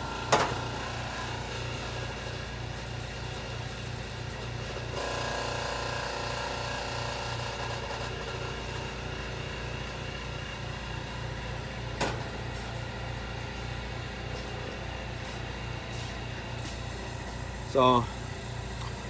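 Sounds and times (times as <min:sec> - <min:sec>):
machinery humming: 0:00.0 - 0:05.8, 0:07.0 - 0:19.0.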